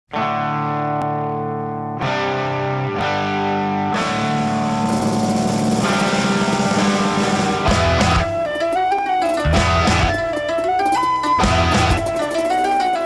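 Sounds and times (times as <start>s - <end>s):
guitar rock music: 0.1s - 13.0s.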